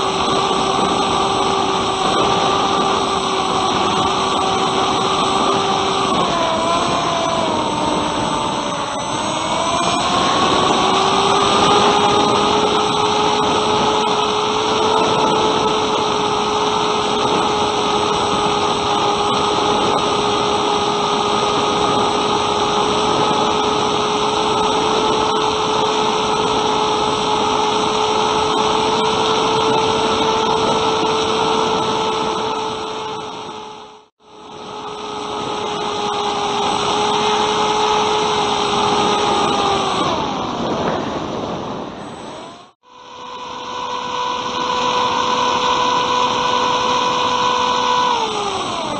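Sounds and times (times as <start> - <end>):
wind rush: 0.0 - 42.8
electric motor propeller whining: 0.0 - 48.9.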